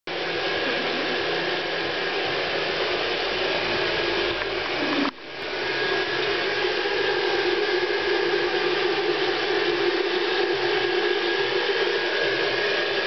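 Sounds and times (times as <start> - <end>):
hair dryer blowing: 0.1 - 13.0.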